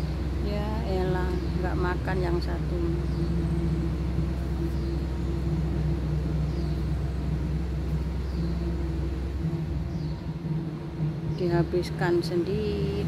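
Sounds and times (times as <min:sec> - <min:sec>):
low mechanical motor hum: 0:00.0 - 0:13.0
pitched drone: 0:00.0 - 0:13.0.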